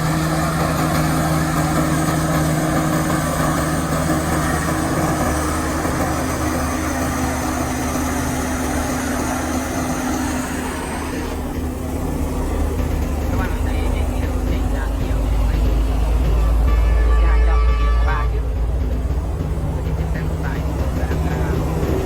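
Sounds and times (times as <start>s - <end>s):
heavy diesel engines running: 0.0s - 22.0s.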